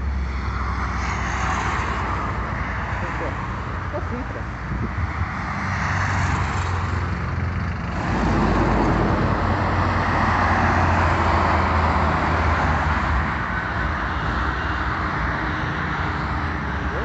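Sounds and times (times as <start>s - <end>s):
diesel engines passing: 0.0s - 17.0s.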